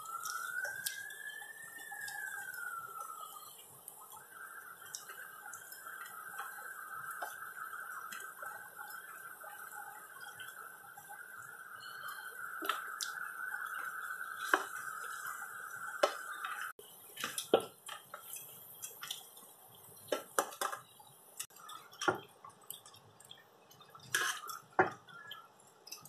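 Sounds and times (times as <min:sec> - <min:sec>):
wet squishing of sauce: 0:00.0 - 0:20.2, 0:21.0 - 0:26.0.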